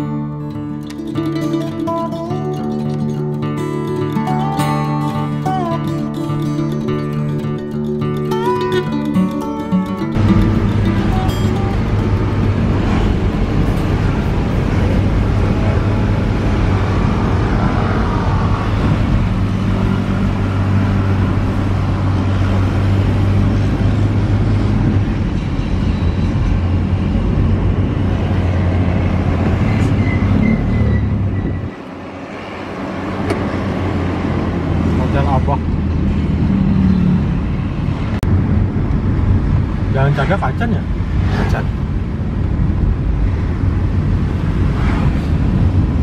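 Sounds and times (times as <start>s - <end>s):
car engine drone: 0.0s - 46.0s
road noise rushing: 0.0s - 46.0s.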